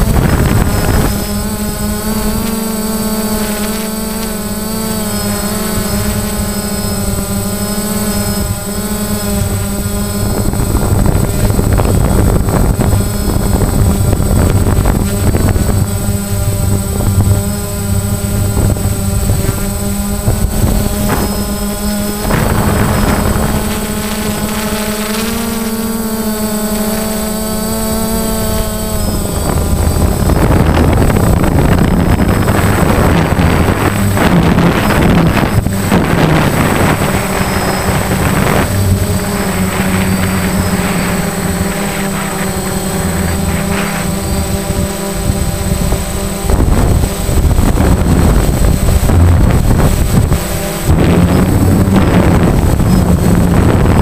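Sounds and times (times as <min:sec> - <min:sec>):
drone propellers whining: 0:00.0 - 0:54.0
wind buffeting microphone: 0:00.0 - 0:54.0.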